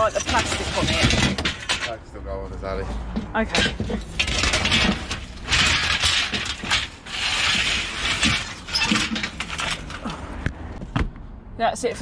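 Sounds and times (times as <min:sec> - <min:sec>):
aluminium scrap clattering: 0:00.0 - 0:02.0, 0:02.9 - 0:10.5.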